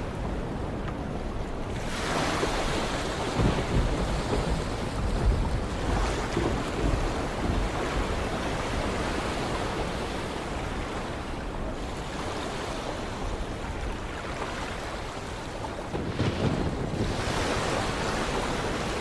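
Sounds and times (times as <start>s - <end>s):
sea waves washing: 0.0s - 19.0s.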